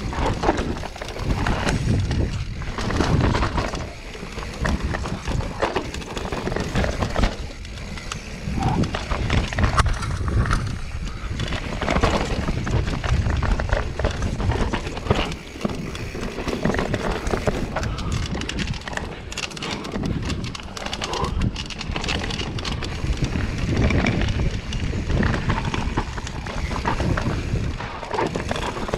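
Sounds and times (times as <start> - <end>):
bike rattling over bumps: 0.0 - 28.9
tyres on dirt: 0.0 - 28.9.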